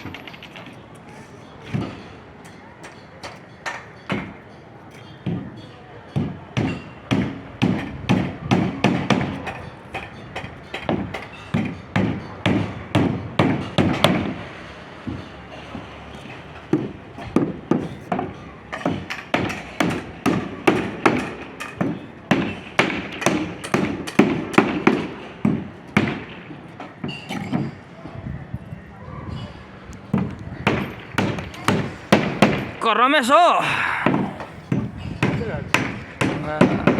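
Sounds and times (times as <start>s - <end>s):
repeated knocking blows: 1.6s - 27.8s, 30.1s - 36.9s.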